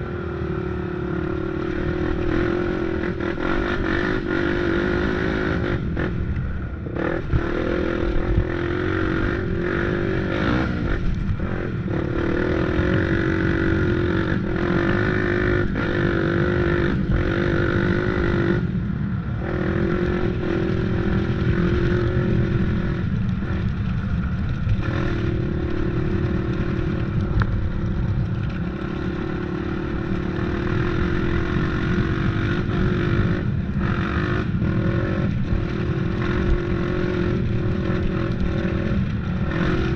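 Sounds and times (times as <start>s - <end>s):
off-road engine revving: 0.0s - 6.2s, 6.9s - 18.7s, 19.4s - 39.9s.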